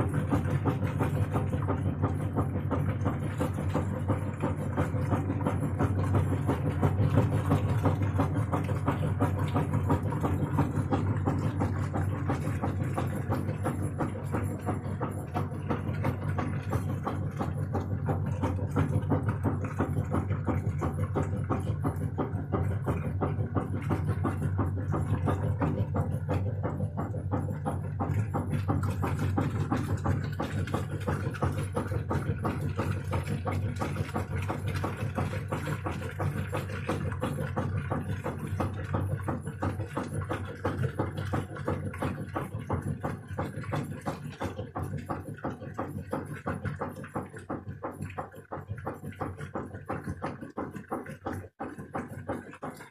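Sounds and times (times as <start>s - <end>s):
rapid even knocking: 0.0s - 52.9s
washing machine motor hum: 0.0s - 52.9s.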